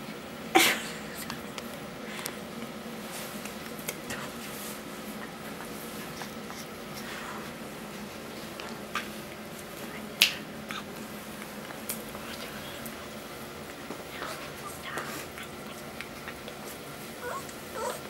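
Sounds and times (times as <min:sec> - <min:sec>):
low room hum: 0:00.0 - 0:18.0
puppies rustling on bedding: 0:03.0 - 0:18.0.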